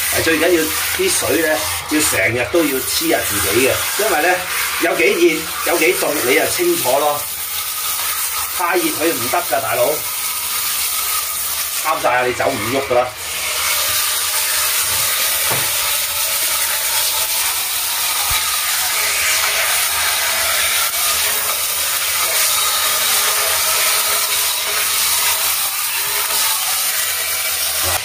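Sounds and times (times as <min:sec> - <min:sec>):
shower water spraying: 0:00.0 - 0:28.0.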